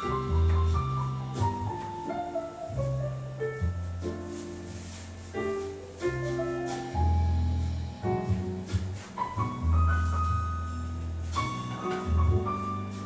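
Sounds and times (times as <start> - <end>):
calm piano instrumental music: 0.0 - 13.0.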